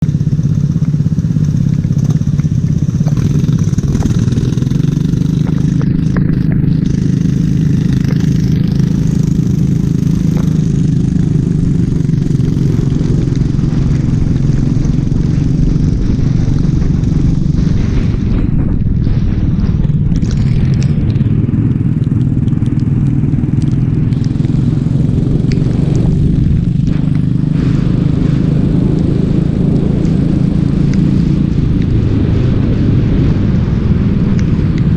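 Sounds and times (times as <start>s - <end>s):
go-kart engine running: 0.0s - 34.9s.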